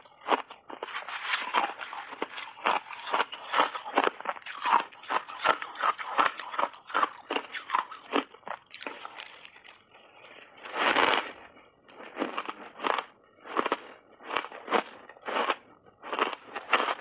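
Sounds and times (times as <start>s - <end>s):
crunching shaved ice: 0.0s - 17.0s.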